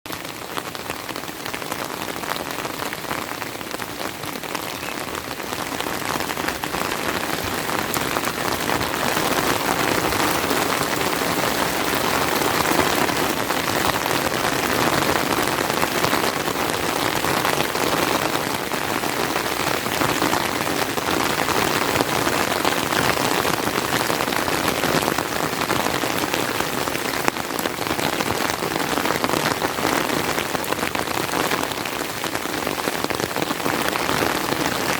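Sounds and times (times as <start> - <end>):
rain pattering: 0.1 - 34.9.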